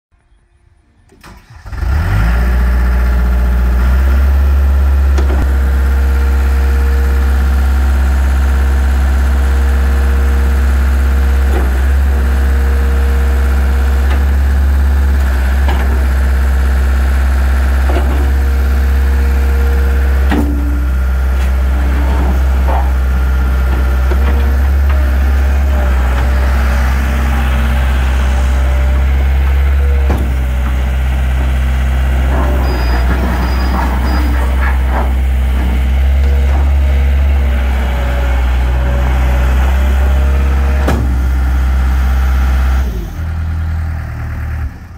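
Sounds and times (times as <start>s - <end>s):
loader bucket lifting and lowering: 0.8s - 44.9s
skid steer engine running: 1.0s - 44.9s.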